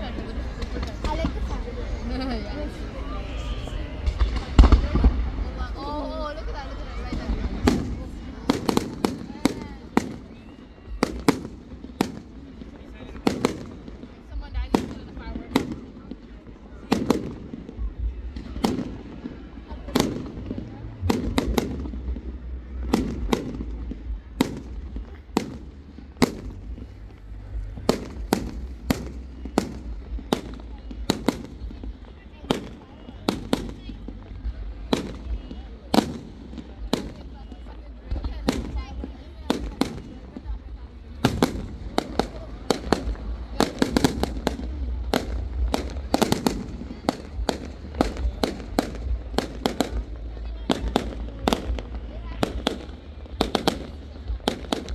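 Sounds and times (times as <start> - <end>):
fireworks bangs: 0.0 - 54.9
steady low rumble: 10.9 - 54.9.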